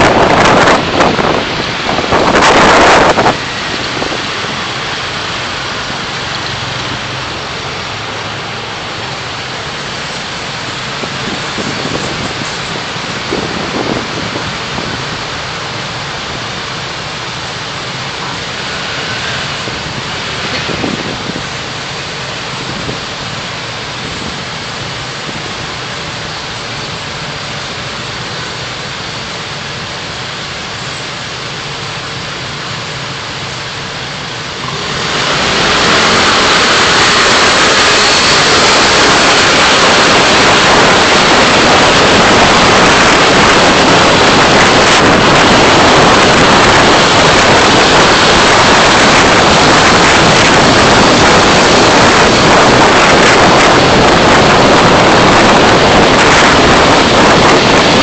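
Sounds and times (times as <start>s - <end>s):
car driving rushing noise: 0.0s - 58.0s.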